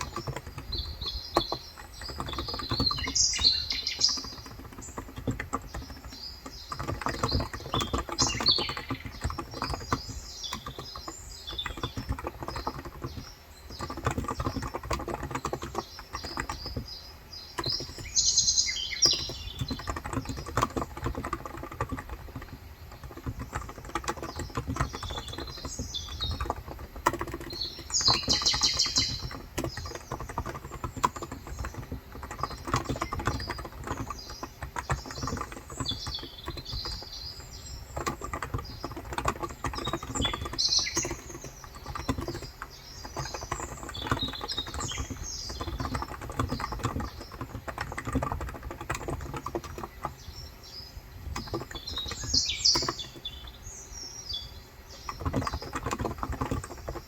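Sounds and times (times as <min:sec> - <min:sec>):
birds chirping: 0:00.0 - 0:57.0
keyboard typing: 0:00.0 - 0:57.0.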